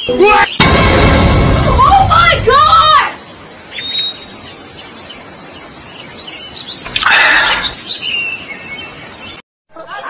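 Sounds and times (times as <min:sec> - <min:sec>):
birds chirping: 0:00.0 - 0:01.2, 0:01.8 - 0:09.4.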